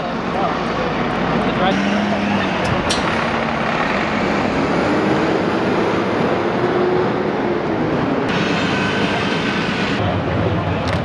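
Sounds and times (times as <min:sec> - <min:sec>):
diesel engines idling: 0:00.0 - 0:11.0.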